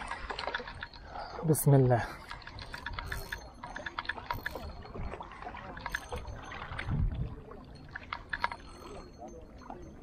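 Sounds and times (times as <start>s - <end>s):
small waves lapping on rocks: 0.0s - 10.0s.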